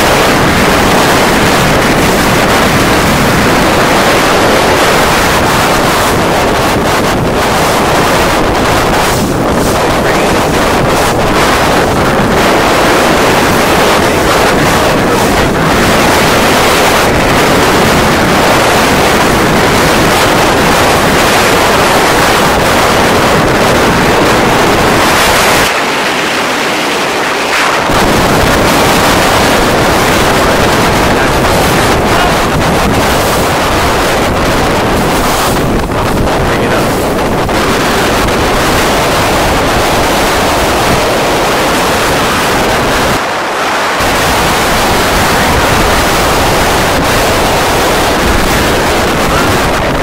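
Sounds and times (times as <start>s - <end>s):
choppy water rushing: 0.0s - 50.0s
wind buffeting microphone: 0.0s - 50.0s.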